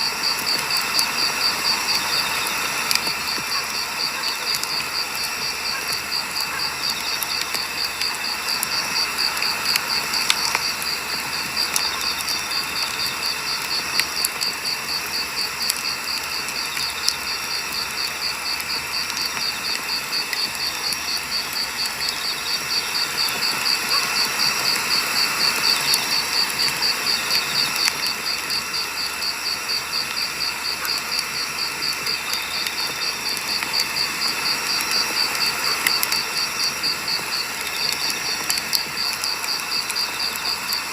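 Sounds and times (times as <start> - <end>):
firewood crackling and hissing: 0.0 - 40.9
pulsing insect chirp: 0.0 - 40.9.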